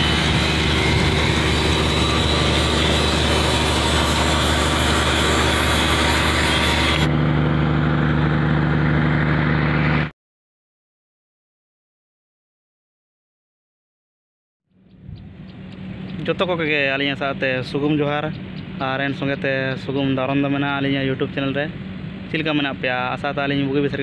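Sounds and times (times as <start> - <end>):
vehicle running with low hum: 0.0 - 10.1, 14.7 - 24.0.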